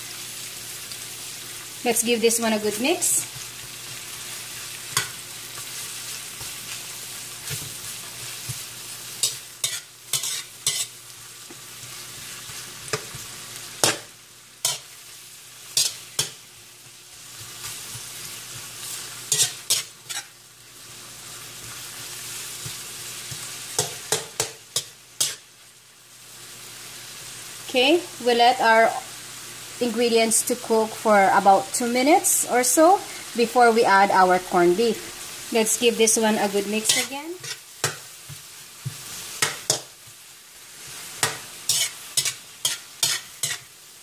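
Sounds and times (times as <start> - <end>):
food sizzling in frying pan: 0.0 - 44.0.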